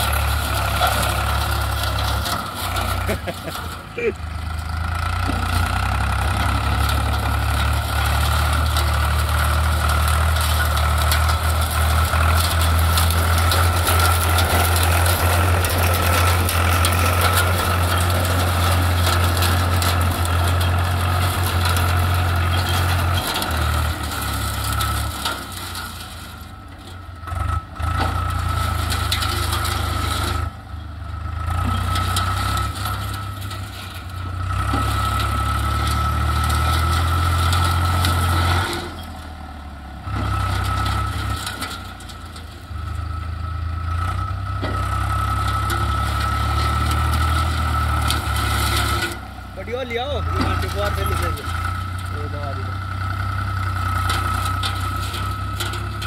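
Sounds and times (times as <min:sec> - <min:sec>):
crop stalks crackling under tyres: 0:00.0 - 0:56.0
tractor diesel engine running: 0:00.0 - 0:56.0.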